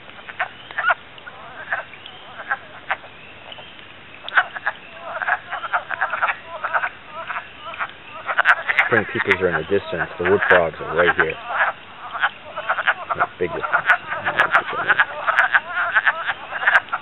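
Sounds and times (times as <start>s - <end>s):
distant peepers peeping: 0.0s - 17.0s
frogs chorus: 0.0s - 17.0s.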